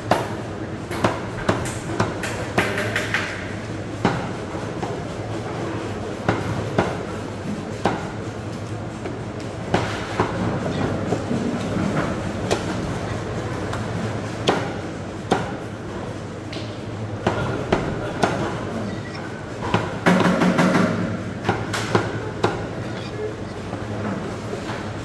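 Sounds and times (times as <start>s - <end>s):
steady low hum: 3.4s - 25.0s.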